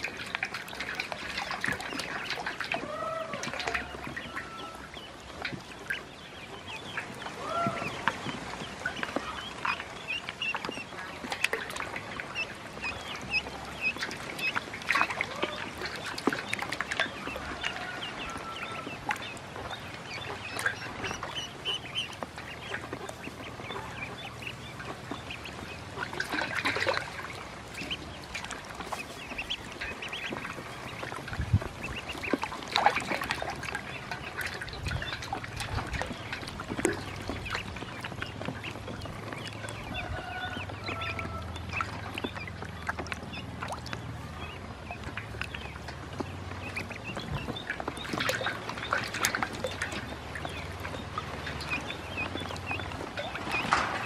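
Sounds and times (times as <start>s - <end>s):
ducklings peeping: 0.0s - 54.0s
small water splashes: 0.0s - 54.0s.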